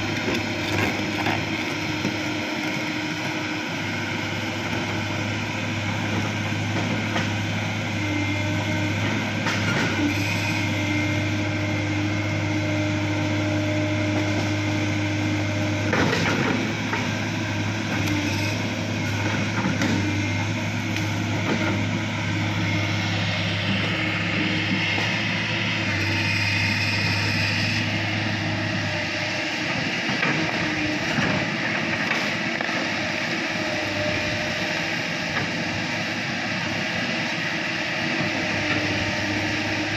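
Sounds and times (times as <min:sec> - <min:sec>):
excavator diesel engine drone: 0:00.0 - 0:39.9.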